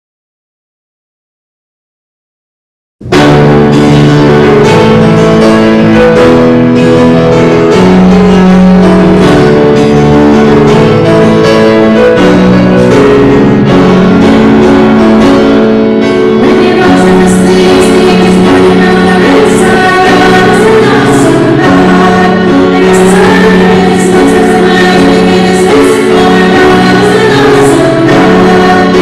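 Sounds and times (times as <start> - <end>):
instrumental music with long held notes: 3.0 - 29.0.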